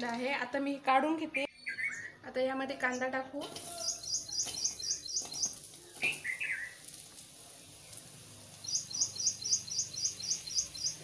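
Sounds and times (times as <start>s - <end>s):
bird chirping: 1.3s - 11.0s.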